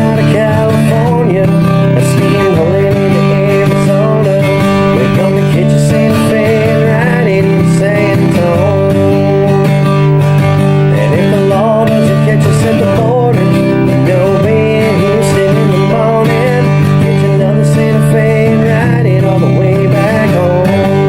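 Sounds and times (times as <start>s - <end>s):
acoustic guitar strumming chords: 0.0s - 21.0s
bending guitar melody: 0.0s - 21.0s.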